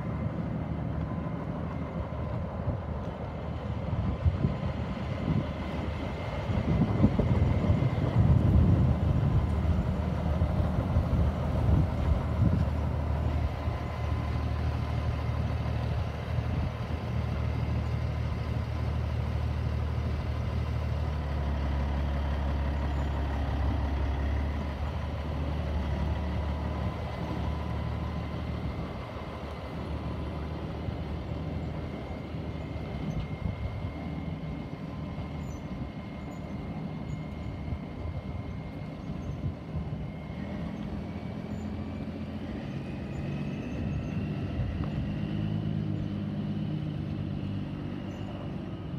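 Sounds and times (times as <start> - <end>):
truck diesel engine driving off: 0.0 - 48.9.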